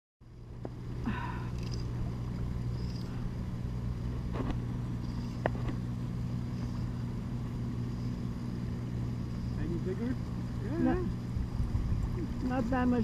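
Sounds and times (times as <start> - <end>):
motor humming: 0.2 - 13.0.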